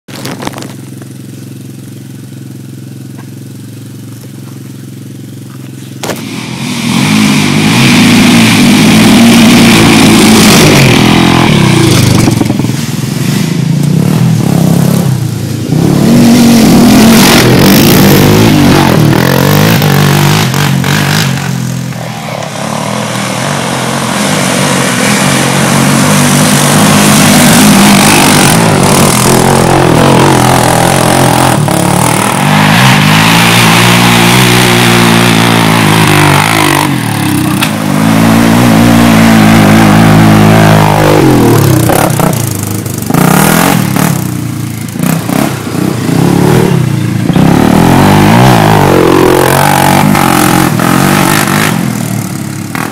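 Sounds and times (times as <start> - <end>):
quad engines idling and revving: 0.1 - 52.9.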